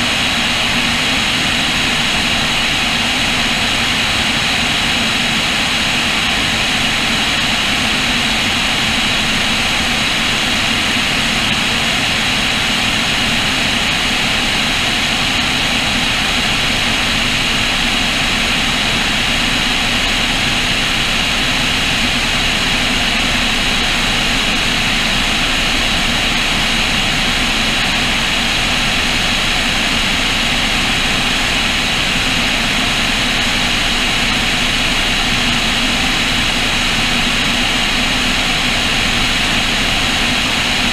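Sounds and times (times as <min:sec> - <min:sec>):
propeller plane engines: 0:00.0 - 0:40.9.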